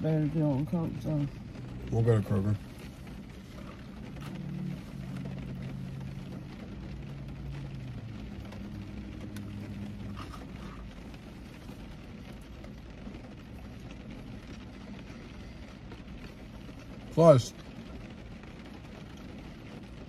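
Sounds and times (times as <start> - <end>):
car cabin hum and hiss: 0.0 - 20.0.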